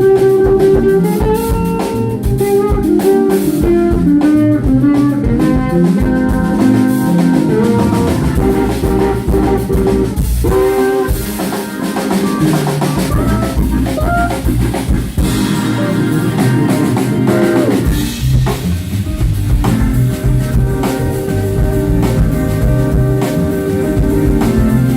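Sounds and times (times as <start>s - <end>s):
bass guitar: 0.0s - 24.9s
drum kit with snare rimshots: 0.0s - 24.9s
steel guitar sliding notes: 0.0s - 24.9s.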